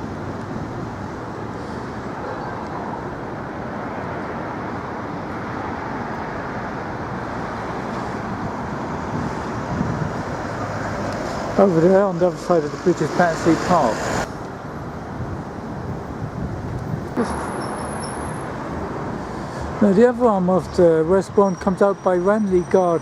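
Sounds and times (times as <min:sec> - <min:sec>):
road traffic rushing past: 0:00.0 - 0:23.0.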